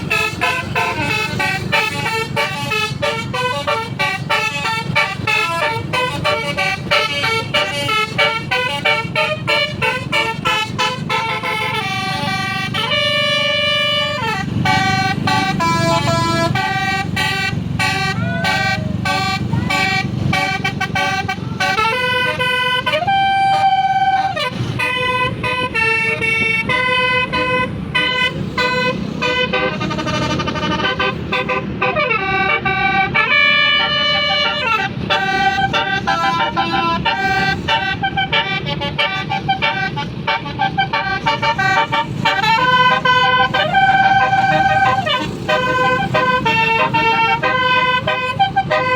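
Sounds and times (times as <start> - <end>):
air horn playing chords: 0.0 - 48.9.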